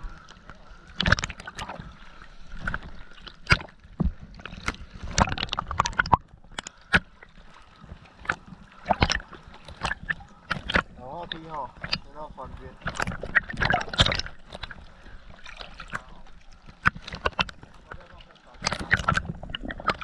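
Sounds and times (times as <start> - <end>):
water sloshing and splashing: 0.0 - 20.0.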